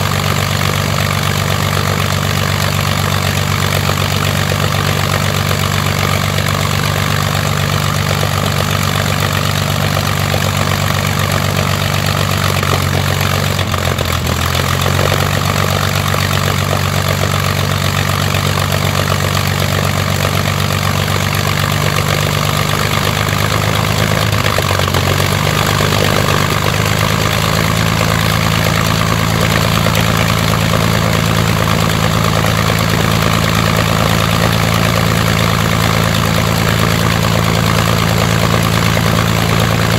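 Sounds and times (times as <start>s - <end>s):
aero engine running: 0.0s - 39.9s.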